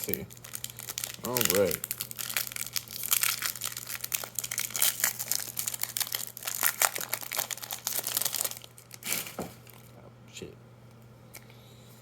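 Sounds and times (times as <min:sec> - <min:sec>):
foil wrapper crinkling: 0:00.0 - 0:09.9.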